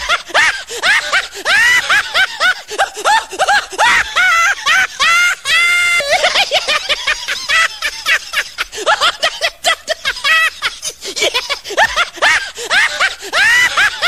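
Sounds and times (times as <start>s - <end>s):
person giggling: 0.0s - 14.0s.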